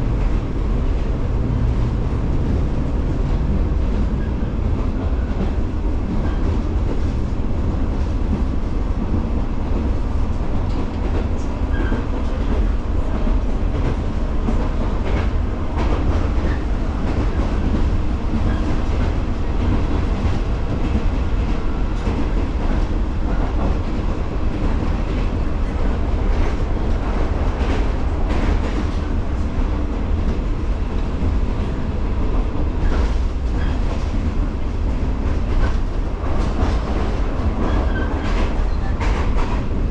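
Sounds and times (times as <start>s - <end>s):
train wheels and motors rumbling: 0.0s - 39.9s
rail-joint clacks: 0.1s - 39.9s.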